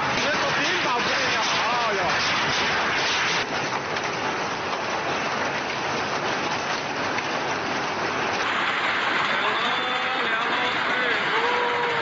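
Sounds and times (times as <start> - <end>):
hail and rain pelting down: 0.0 - 12.0.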